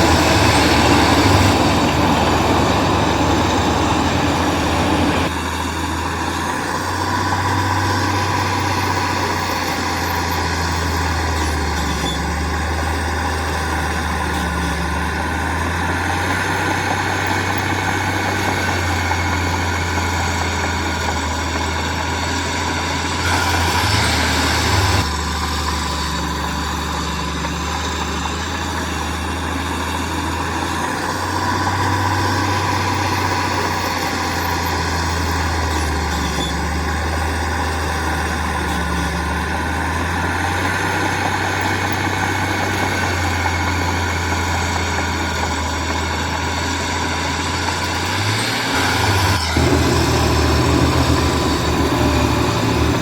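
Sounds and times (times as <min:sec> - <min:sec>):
heavy machine engine droning: 0:00.0 - 0:53.0.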